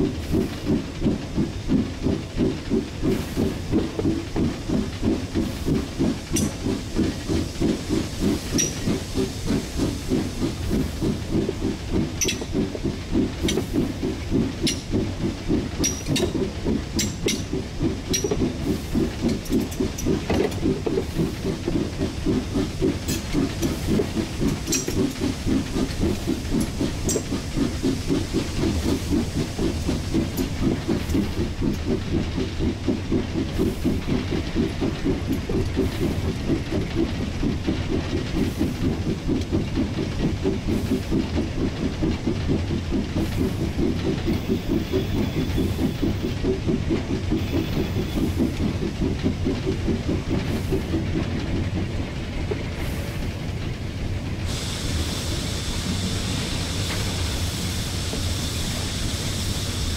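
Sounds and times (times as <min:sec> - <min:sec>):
steam hissing: 0:00.0 - 0:51.9, 0:54.4 - 0:59.9
steam locomotive chuffing: 0:00.0 - 0:59.9.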